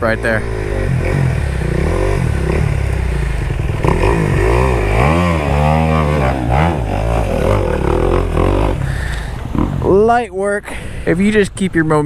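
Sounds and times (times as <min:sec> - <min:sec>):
engine idling: 0:00.0 - 0:09.7
dirt bike engine revving: 0:00.0 - 0:10.1.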